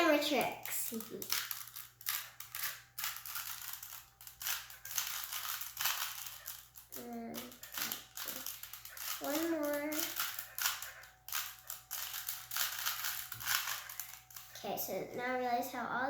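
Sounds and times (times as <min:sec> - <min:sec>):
plastic puzzle cube clicking: 0:00.9 - 0:14.1.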